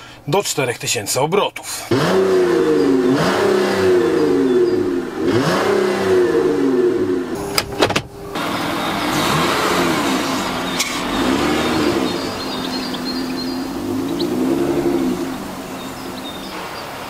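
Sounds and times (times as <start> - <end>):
car engine revving: 1.9 - 17.0.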